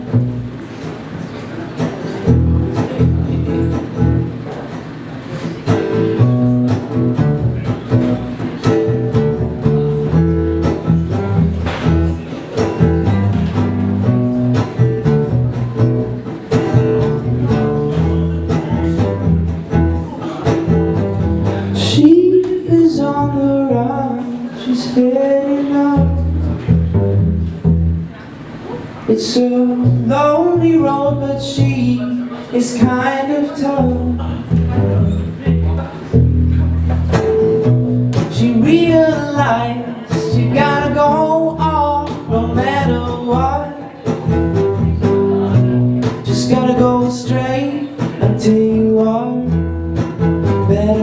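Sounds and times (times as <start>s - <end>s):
acoustic band playing: 0.0s - 51.0s.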